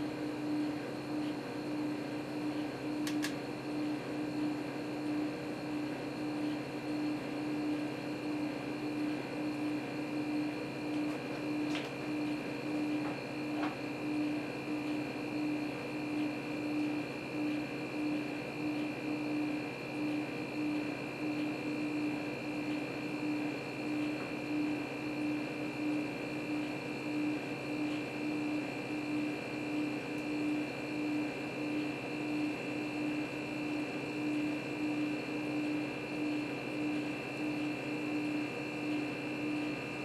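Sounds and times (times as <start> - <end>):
compressor humming: 0.0 - 40.0.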